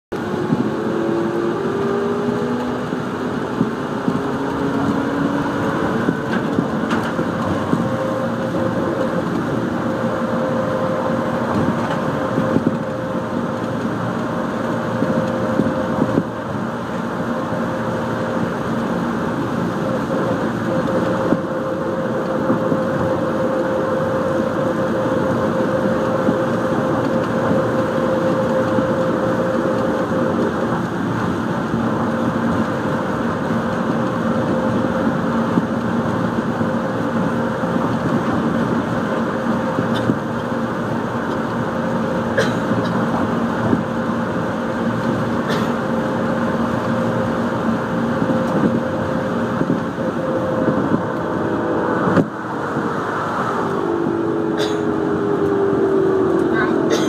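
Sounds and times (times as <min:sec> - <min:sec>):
train running rumble: 0:00.1 - 0:57.0
train motor whine: 0:00.2 - 0:57.0.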